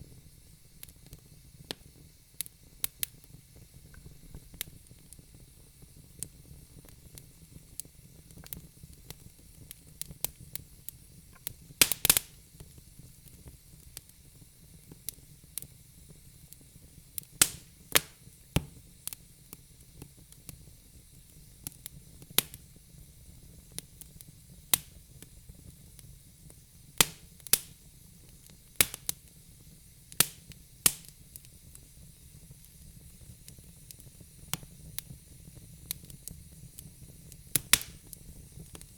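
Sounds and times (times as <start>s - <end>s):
faint low hiss: 0.0s - 38.9s
wood fire crackling and popping: 0.0s - 38.9s.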